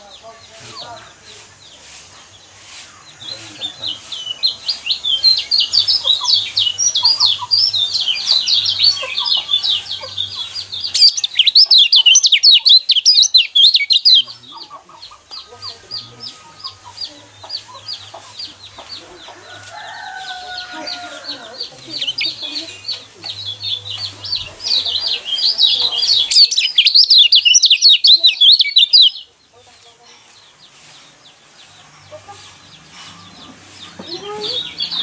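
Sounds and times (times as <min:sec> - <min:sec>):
birds twittering: 0:00.0 - 0:35.0.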